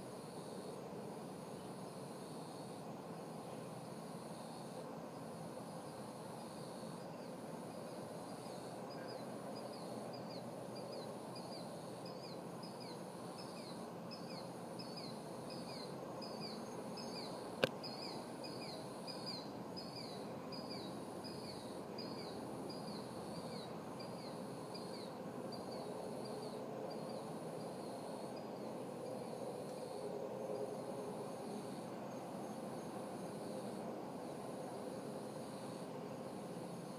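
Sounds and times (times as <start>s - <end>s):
low background noise: 0.0s - 36.9s
night insects chorus: 0.0s - 36.9s.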